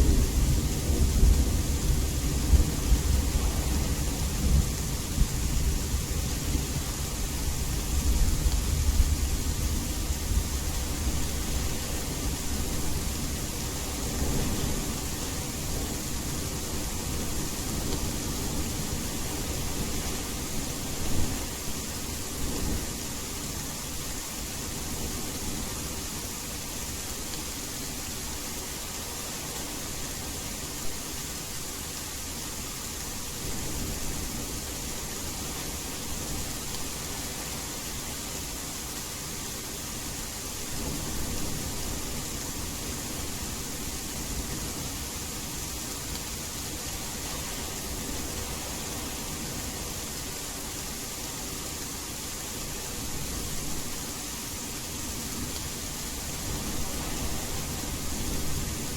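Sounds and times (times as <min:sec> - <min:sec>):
steady rain: 0:00.0 - 0:58.9
white noise: 0:00.0 - 0:58.9.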